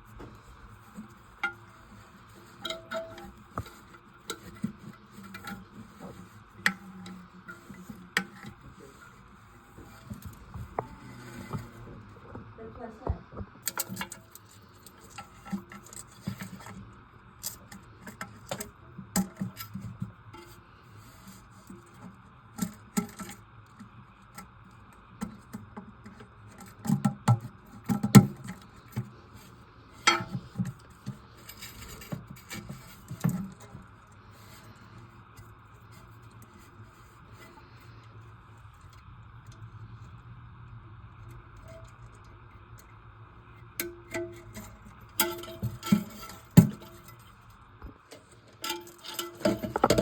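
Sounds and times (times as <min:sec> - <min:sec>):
toilet parts clicking and rubbing: 0:00.1 - 0:39.6, 0:43.7 - 0:50.0.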